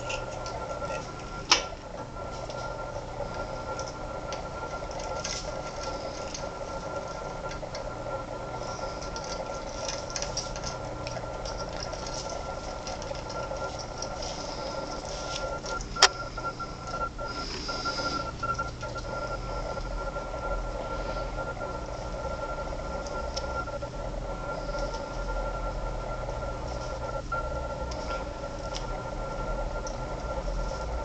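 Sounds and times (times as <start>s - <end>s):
steady mechanical hum: 0.0s - 31.0s.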